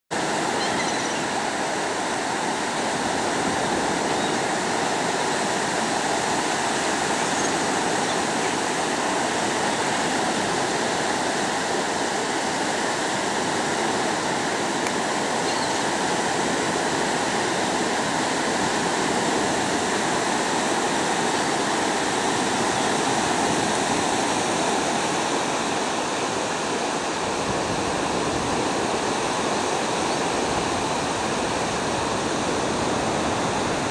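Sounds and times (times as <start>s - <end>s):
ocean waves breaking on beach: 0.1s - 33.9s.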